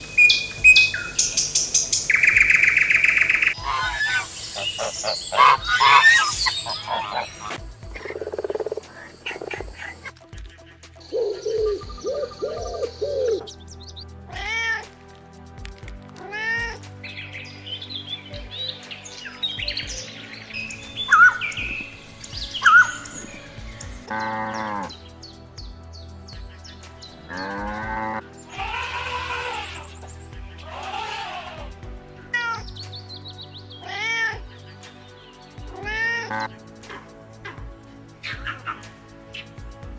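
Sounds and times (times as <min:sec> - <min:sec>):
animal and bird calls: 0:00.0 - 0:14.8, 0:16.2 - 0:31.8, 0:32.4 - 0:37.6
faint background music: 0:00.0 - 0:39.9.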